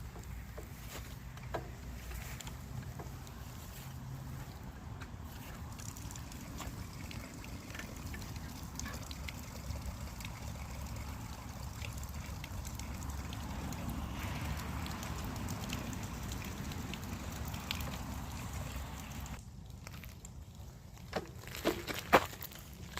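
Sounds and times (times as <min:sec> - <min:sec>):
small ticks and crackles: 0:00.0 - 0:22.9.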